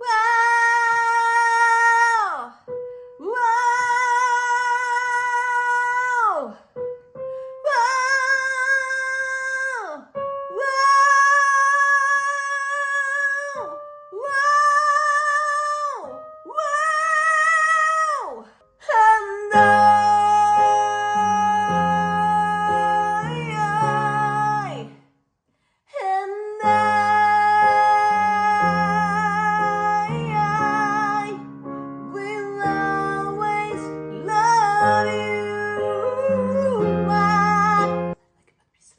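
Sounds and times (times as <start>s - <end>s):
high voice singing with vibrato: 0.0s - 2.6s, 3.2s - 6.6s, 7.6s - 25.0s, 25.9s - 38.2s.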